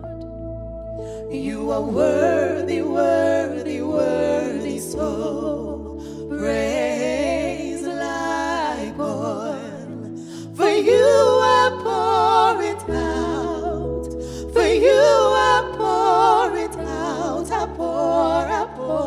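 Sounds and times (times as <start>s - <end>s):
women singing gospel duet: 1.1s - 19.0s.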